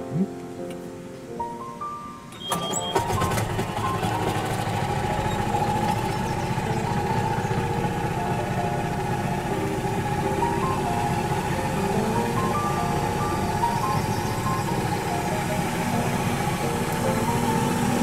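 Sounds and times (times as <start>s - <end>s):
simple stepped melody: 0.0s - 2.2s, 5.1s - 18.0s
small engine humming: 2.4s - 18.0s.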